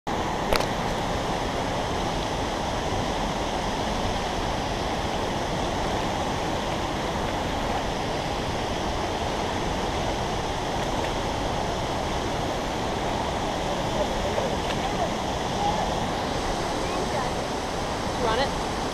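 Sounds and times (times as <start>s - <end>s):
distant waterfall: 0.1s - 18.9s
water rushing over stones: 0.1s - 18.9s.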